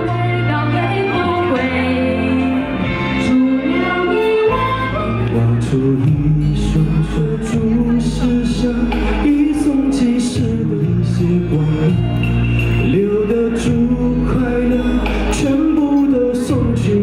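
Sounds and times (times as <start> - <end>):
backing track with bass: 0.0 - 17.0
man singing into a microphone: 3.1 - 17.0.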